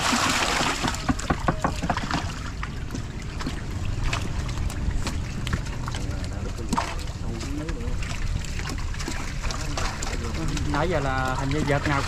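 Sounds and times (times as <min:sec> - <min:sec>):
fish thrashing and splashing water: 0:00.0 - 0:12.0
low steady hum: 0:00.0 - 0:12.0.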